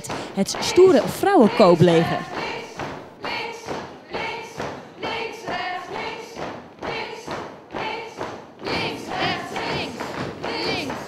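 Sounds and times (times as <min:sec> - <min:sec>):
group voices: 0:00.0 - 0:06.3, 0:06.9 - 0:11.0.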